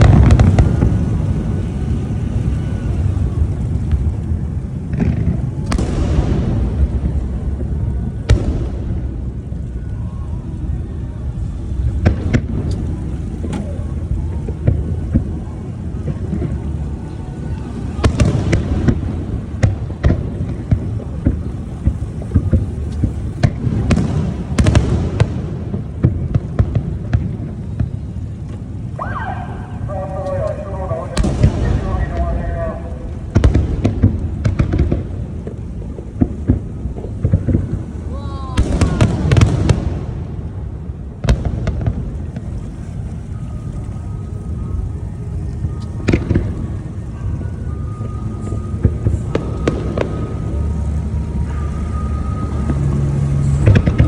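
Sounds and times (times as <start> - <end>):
continuous low rumble: 0.0 - 54.0
fireworks bursting: 0.0 - 54.0.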